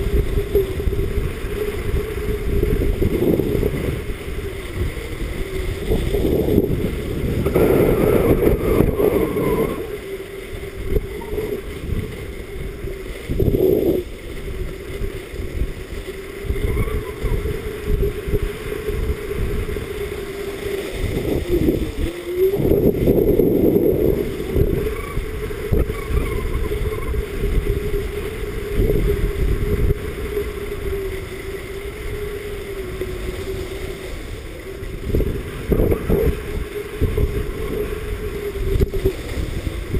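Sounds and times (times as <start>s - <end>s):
steady low hum: 0.0s - 39.9s
wind buffeting microphone: 0.0s - 39.9s.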